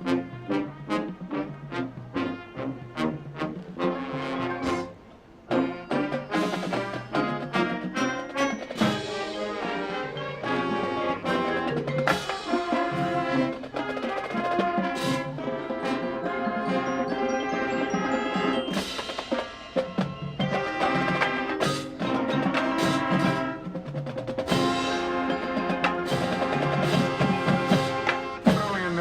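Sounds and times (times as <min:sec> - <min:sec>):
brass chords: 0:00.0 - 0:29.0
drums: 0:00.0 - 0:29.0
mallet percussion: 0:04.2 - 0:29.0.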